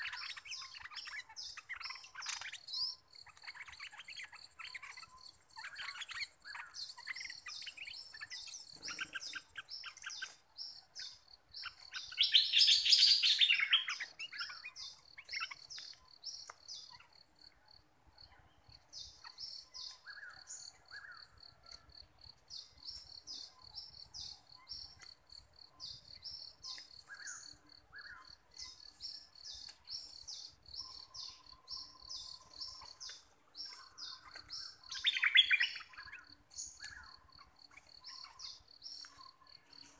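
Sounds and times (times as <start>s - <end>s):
bird song burst: 0.0s - 17.2s, 18.2s - 39.9s
birds chirping: 0.0s - 39.9s.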